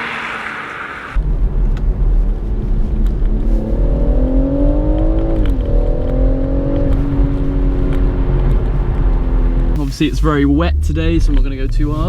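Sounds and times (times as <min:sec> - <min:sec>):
car engine accelerating: 0:00.0 - 0:12.0
low road rumble: 0:00.0 - 0:12.0.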